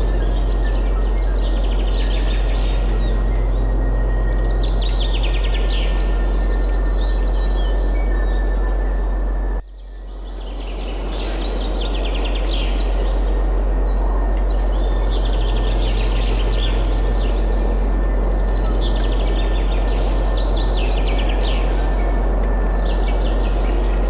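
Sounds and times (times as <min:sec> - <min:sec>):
songbirds chirping and trilling: 0:00.0 - 0:24.0
wind: 0:00.0 - 0:24.0.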